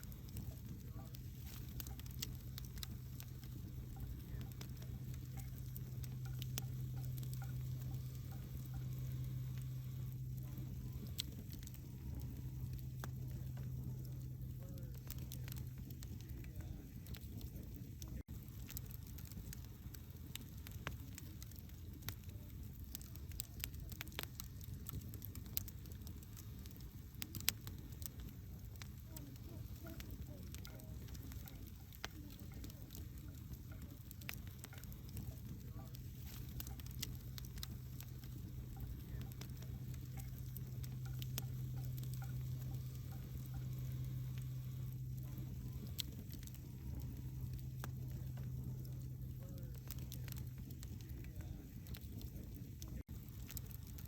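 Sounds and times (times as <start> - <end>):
steady low hum: 0.0 - 54.0
wood fire crackling: 0.0 - 54.0.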